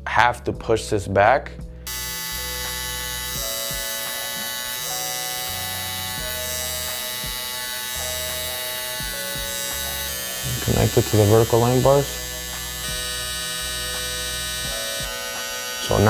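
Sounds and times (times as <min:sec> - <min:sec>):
background music: 0:00.0 - 0:16.0
hair trimmer buzzing: 0:01.8 - 0:16.0.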